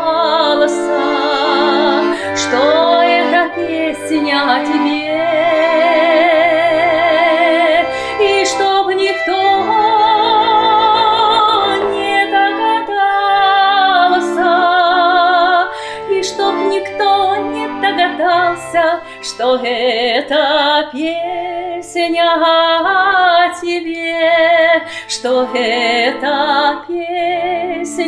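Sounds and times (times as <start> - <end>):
button accordion playing chords: 0.0 - 28.0
woman singing with vibrato: 0.0 - 28.0.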